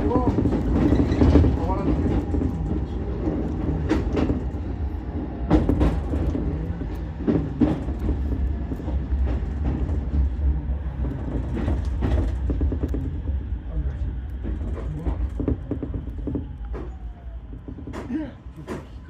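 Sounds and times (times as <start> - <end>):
train interior rumble: 0.0 - 19.0
wheels clicking over rail joints: 0.0 - 19.0.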